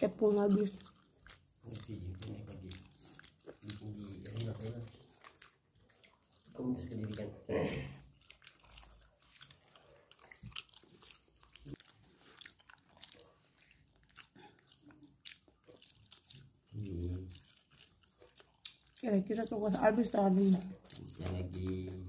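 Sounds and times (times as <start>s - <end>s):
people chewing fried food: 0.0s - 22.0s.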